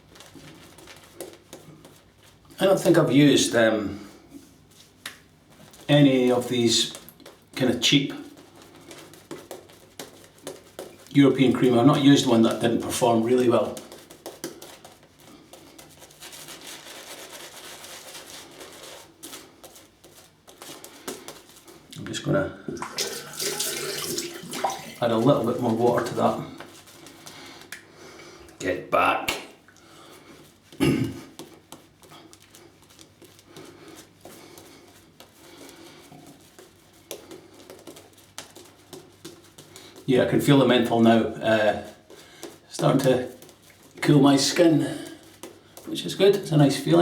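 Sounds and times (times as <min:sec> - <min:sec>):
shaving brush swishing lather: 0:00.0 - 0:21.8, 0:22.9 - 0:27.7, 0:31.4 - 0:47.0.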